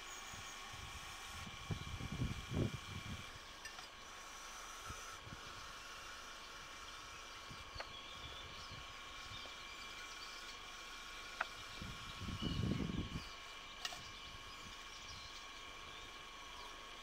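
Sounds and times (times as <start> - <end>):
thin whining tones: 0.0 - 17.0.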